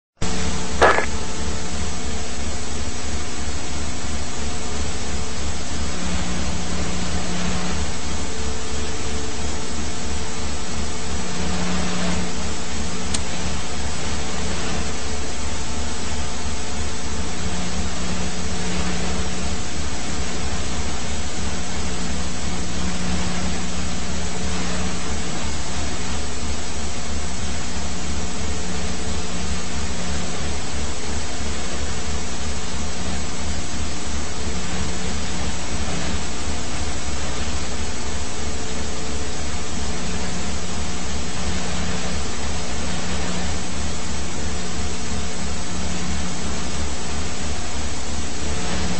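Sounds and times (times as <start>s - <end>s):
helicopter engine and rotor: 0.2s - 48.9s.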